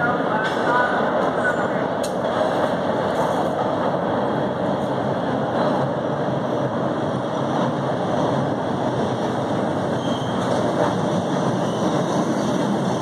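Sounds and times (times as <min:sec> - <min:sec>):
subway train wheels rumbling on rails: 0:00.0 - 0:13.0.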